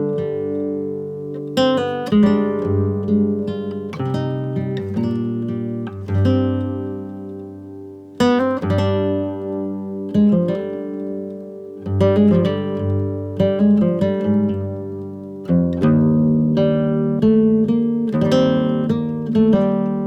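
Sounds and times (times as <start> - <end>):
acoustic guitar through speaker: 0.0 - 20.0.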